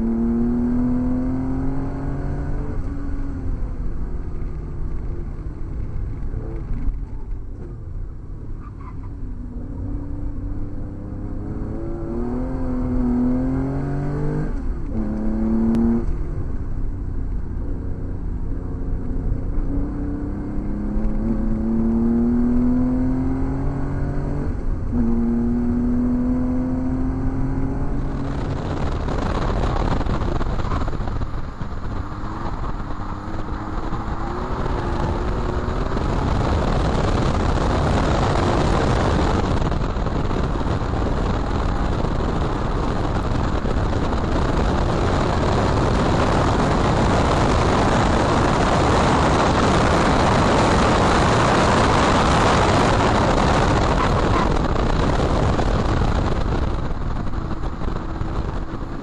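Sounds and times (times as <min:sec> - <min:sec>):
car engine accelerating: 0:00.0 - 0:59.0
wind and tyre noise: 0:00.0 - 0:59.0.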